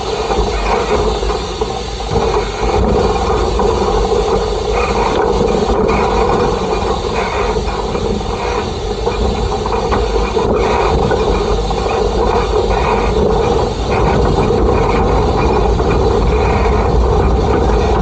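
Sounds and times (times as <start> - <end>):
steam locomotive running on rails: 0.0 - 18.0.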